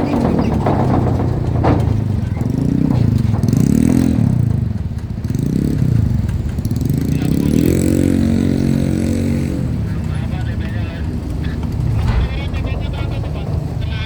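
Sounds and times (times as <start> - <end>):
vehicle engines revving: 0.0 - 14.0.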